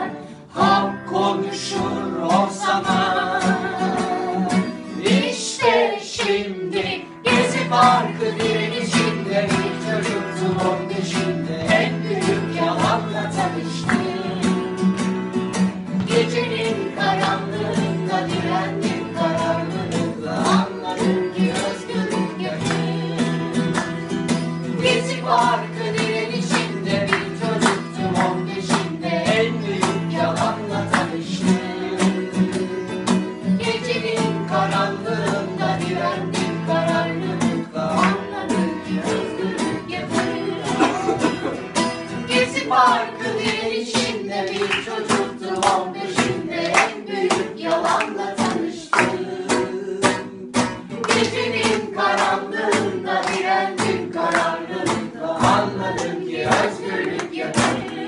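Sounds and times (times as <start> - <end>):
group singing in chorus: 0.0 - 58.0
percussive beat: 0.0 - 58.0
strummed guitar: 0.0 - 58.0.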